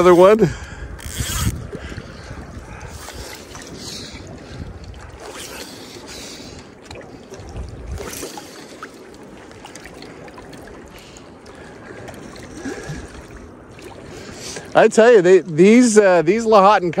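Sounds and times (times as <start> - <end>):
wind rumbling on microphone: 0.0 - 14.9
small waves lapping on rocks: 0.0 - 17.0.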